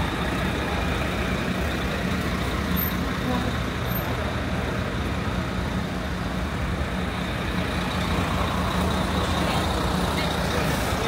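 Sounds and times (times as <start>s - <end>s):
heavy vehicle engine rumbling: 0.0s - 11.0s
street traffic noise: 0.0s - 11.0s.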